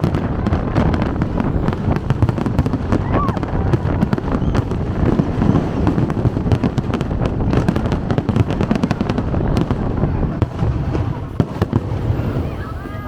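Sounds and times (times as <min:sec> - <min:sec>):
deep rumble of bursts: 0:00.0 - 0:13.0
fireworks popping and crackling: 0:00.0 - 0:13.0.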